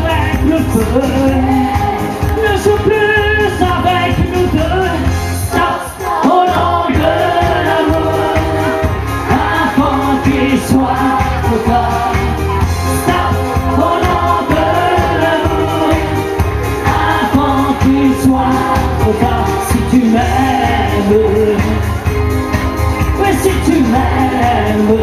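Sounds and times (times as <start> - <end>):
live pop song over pa: 0.0 - 25.0.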